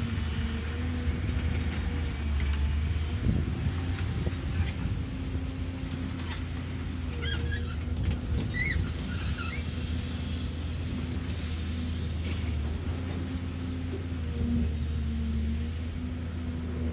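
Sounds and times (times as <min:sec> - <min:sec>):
excavator diesel engine droning: 0:00.0 - 0:16.9.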